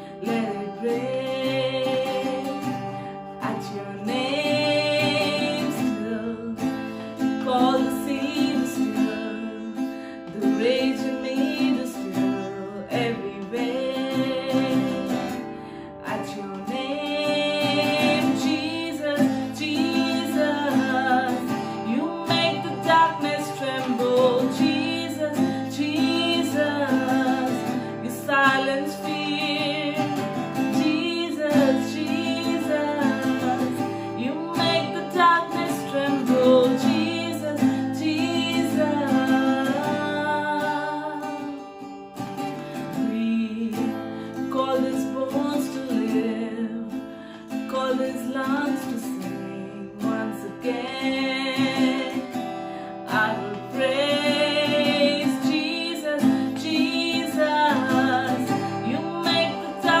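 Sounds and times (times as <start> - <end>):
acoustic guitar: 0.0 - 60.0.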